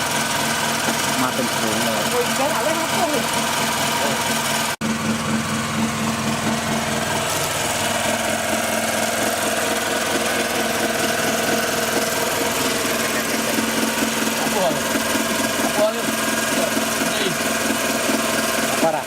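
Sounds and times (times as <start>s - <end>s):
boat engine hum: 0.0s - 19.0s.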